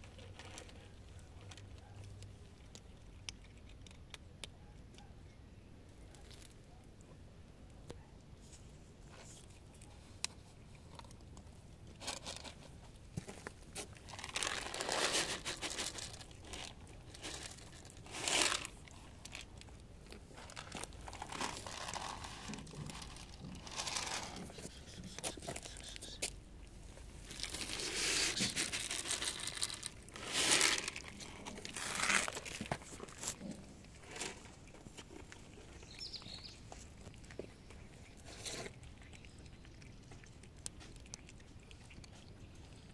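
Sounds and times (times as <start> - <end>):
cats crunching dry kibble: 0.0 - 5.2, 5.8 - 42.9.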